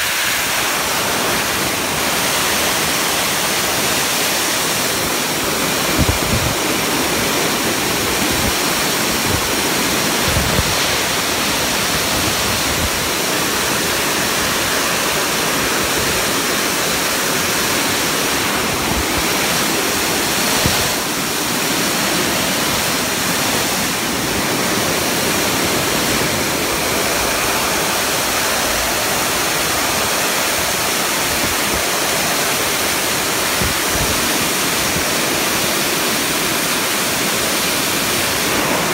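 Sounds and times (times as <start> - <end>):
pet dryer blowing air: 0.0 - 31.9.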